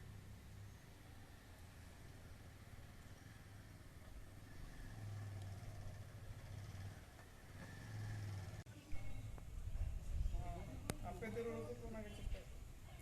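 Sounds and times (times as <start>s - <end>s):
low vehicle engine rumble: 0.0s - 11.1s.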